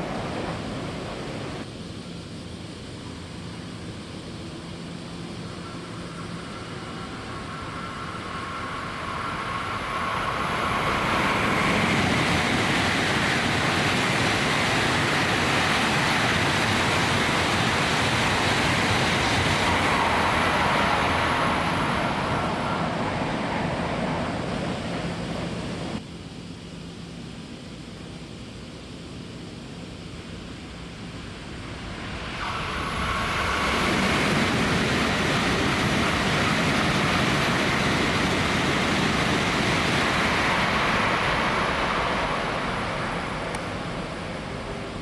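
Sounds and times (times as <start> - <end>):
high-speed train rushing past: 0.0 - 1.7, 5.0 - 26.0, 30.2 - 45.0
faint whine: 0.0 - 45.0.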